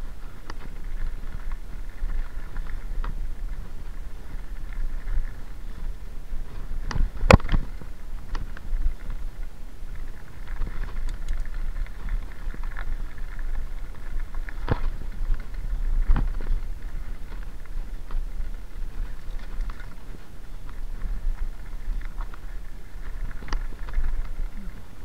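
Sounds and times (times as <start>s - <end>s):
bike knocking and rattling: 0.0s - 25.0s
tyres crunching over stones: 0.0s - 25.0s
wind rumbling on microphone: 0.0s - 25.0s.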